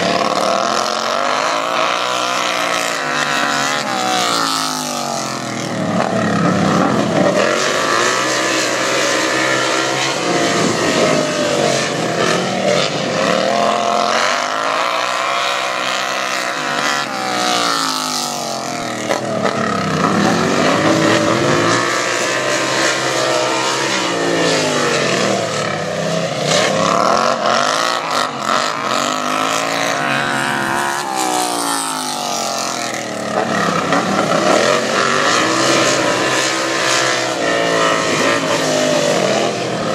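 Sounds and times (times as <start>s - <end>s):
lawn tractor engines revving: 0.0s - 39.9s.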